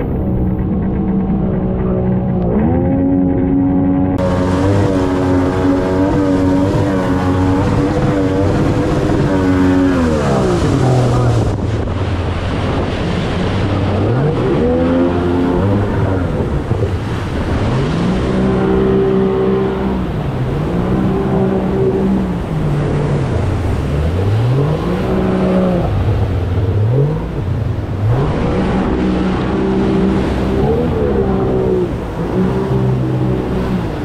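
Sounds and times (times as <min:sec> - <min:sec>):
jet boat motor revving: 0:00.0 - 0:34.0
rushing water: 0:00.0 - 0:34.0
wind: 0:00.0 - 0:34.0.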